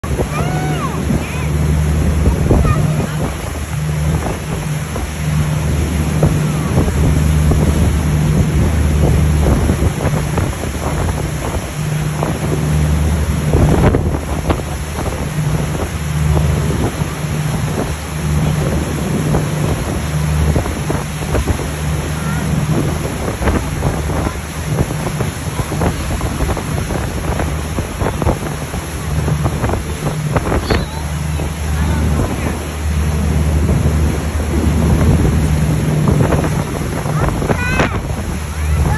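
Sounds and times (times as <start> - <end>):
boat engine hum: 0.0 - 38.9
churning wake water: 0.0 - 38.9
wind buffeting microphone: 0.0 - 38.9.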